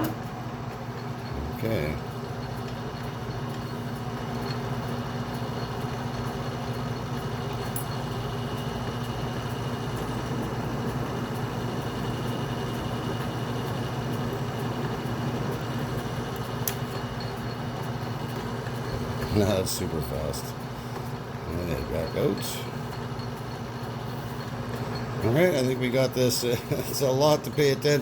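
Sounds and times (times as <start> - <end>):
metal lathe motor humming: 0.0 - 28.0.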